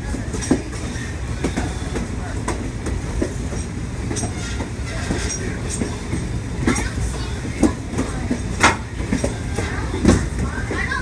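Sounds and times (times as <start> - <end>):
train rumbling on track: 0.0 - 11.0
wheels clicking over rail joints: 0.0 - 11.0.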